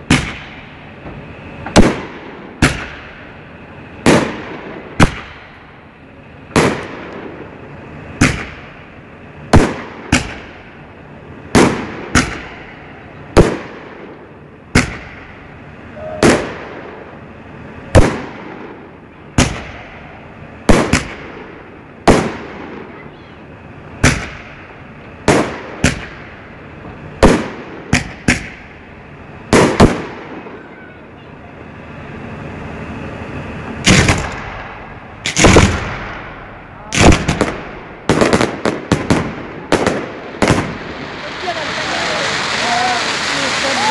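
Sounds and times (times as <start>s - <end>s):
fireworks bursting: 0.0s - 43.9s.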